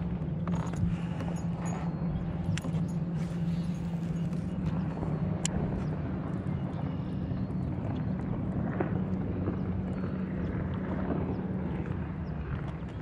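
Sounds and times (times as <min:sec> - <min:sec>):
distant boat motor drone: 0:00.0 - 0:13.0
water lapping against kayak: 0:00.0 - 0:13.0.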